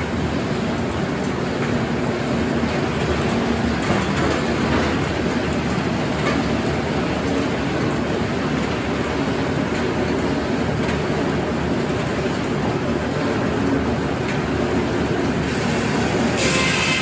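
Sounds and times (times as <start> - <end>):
circular sawmill running: 0.0 - 17.0.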